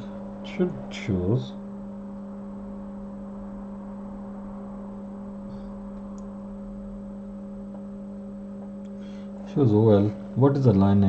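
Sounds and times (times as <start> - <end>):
electrical hum: 0.0 - 11.0
low background hiss: 0.0 - 11.0.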